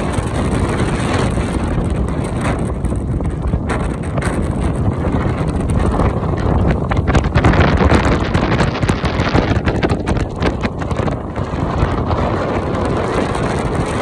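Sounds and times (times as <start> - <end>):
motorbike road and engine noise: 0.0 - 14.0
wind buffeting microphone: 0.0 - 14.0.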